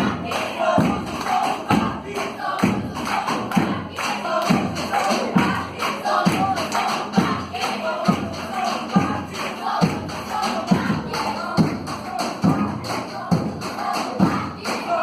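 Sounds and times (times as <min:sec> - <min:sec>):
choir singing: 0:00.0 - 0:15.0
light percussion: 0:00.0 - 0:15.0.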